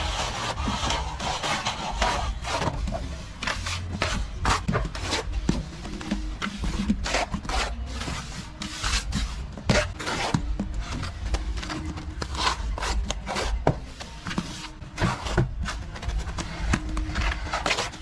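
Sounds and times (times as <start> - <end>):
plastering tool scraping wall: 0.0 - 18.0.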